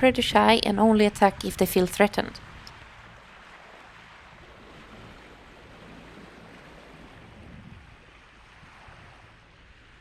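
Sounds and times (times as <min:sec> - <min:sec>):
sea water rushing: 0:00.0 - 0:10.0.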